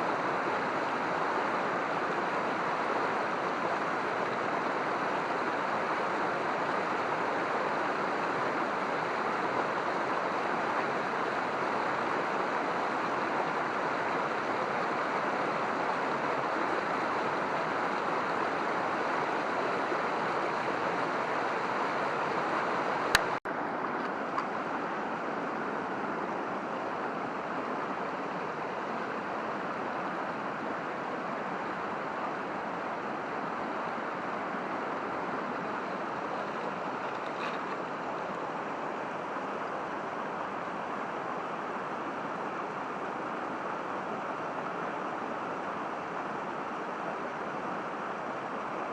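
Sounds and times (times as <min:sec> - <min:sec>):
stream rushing over rocks: 0:00.0 - 0:48.9.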